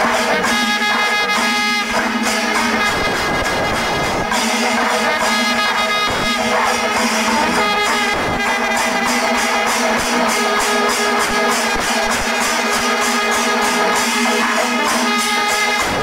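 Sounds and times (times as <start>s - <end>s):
held wind instrument notes: 0.0s - 16.0s
percussion: 0.0s - 16.0s.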